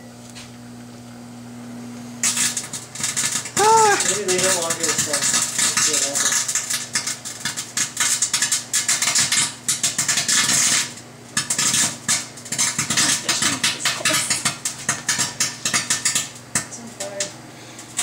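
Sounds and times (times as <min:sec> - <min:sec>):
microwave oven hum: 0:00.0 - 0:18.0
electrical sparks crackling: 0:02.2 - 0:18.0.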